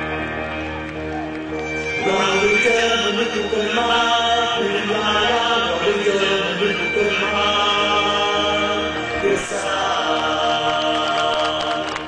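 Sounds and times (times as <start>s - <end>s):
held musical accompaniment: 0.0s - 12.0s
chant-like vocal tones: 2.0s - 12.0s.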